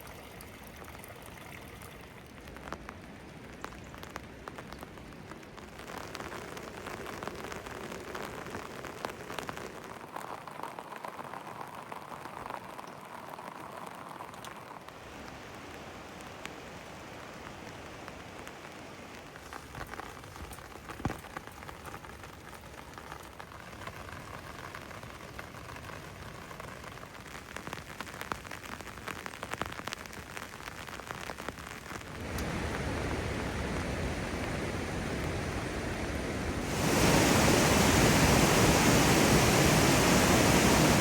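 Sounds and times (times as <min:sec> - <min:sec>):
raindrops ticking on hard surfaces: 0:00.0 - 0:41.0
rush of water: 0:00.0 - 0:41.0.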